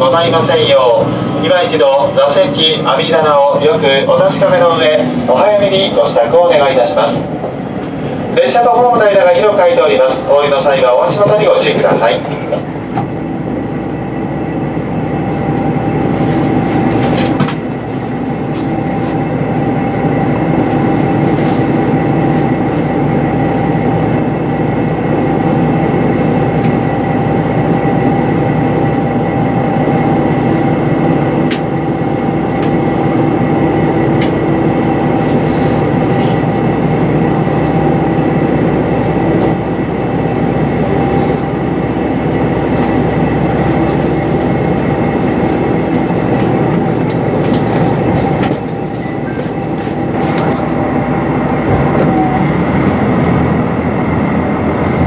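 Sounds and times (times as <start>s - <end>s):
train engine and wheel drone: 0.0s - 55.0s.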